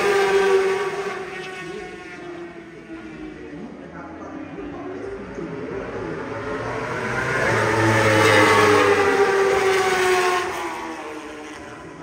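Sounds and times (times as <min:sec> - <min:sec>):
motorbikes passing at full speed: 0:00.0 - 0:12.0.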